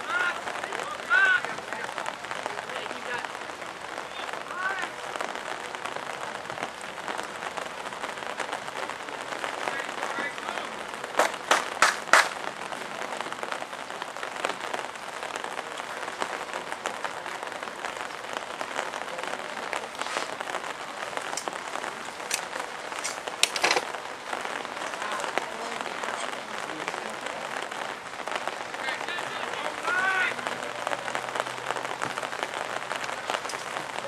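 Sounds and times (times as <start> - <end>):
light rain hissing: 0.0 - 34.0.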